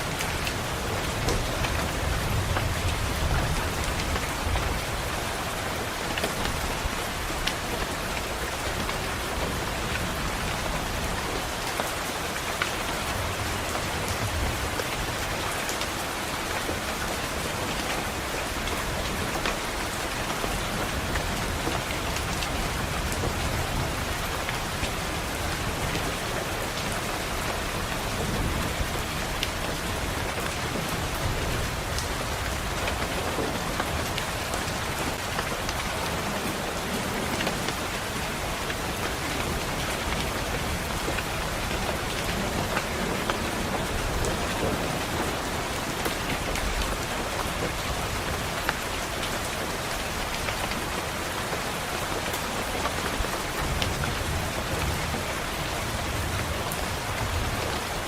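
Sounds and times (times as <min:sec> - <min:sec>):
rain on a window: 0:00.0 - 0:58.0
raindrops tapping: 0:00.0 - 0:58.0.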